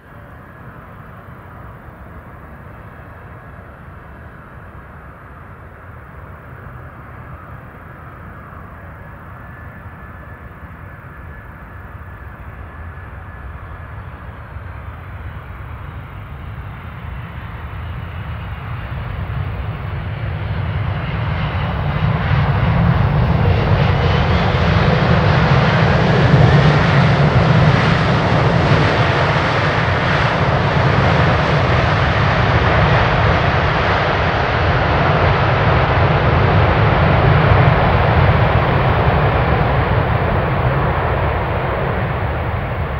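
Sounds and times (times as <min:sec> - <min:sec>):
jet engines rumbling with whine: 0:00.0 - 0:42.9.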